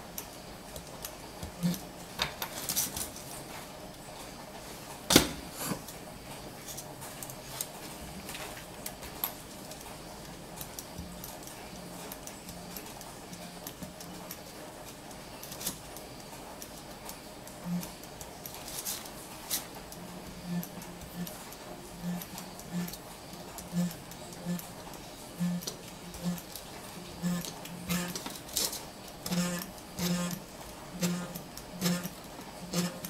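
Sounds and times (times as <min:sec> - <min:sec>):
soldering gun buzzing: 0:00.0 - 0:02.5, 0:07.6 - 0:33.0.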